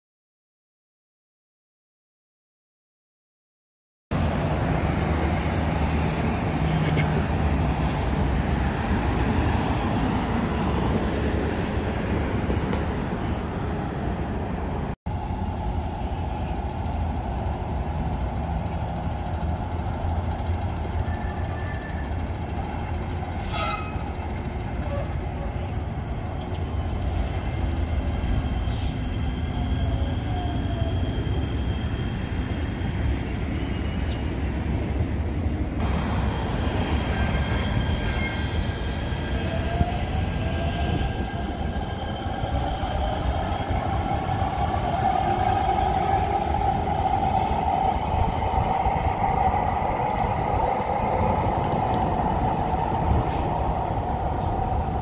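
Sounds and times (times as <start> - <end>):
train high steady whine: 4.1 - 55.0.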